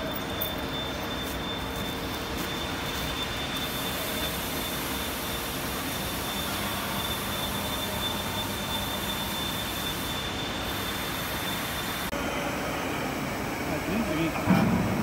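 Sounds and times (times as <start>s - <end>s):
mixer mechanical hum: 0.0s - 15.0s
thin high whine: 0.0s - 15.0s.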